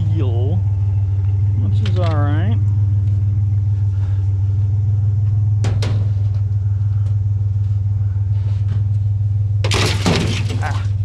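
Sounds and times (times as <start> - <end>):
vehicle engine idling: 0.0 - 9.7.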